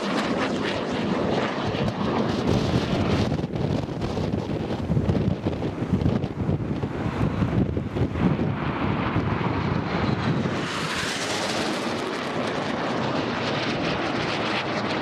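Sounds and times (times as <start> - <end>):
jet passing overhead: 0.0 - 15.0
wind buffeting microphone: 0.0 - 15.0.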